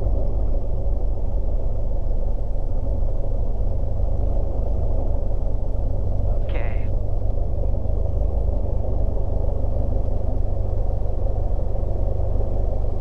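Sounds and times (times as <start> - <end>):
propeller plane engine idling: 0.0 - 13.0.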